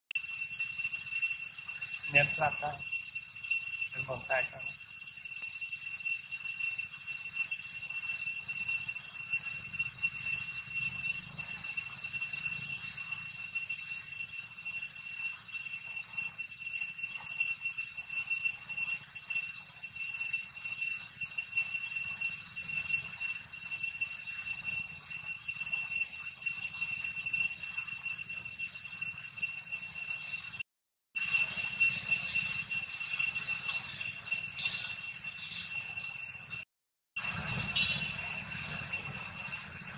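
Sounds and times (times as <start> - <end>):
cicadas droning: 0.2 - 30.6, 31.2 - 36.6, 37.2 - 39.9.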